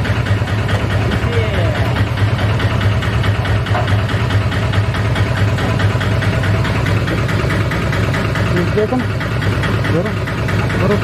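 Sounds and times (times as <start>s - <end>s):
fuel pump humming: 0.0s - 11.0s.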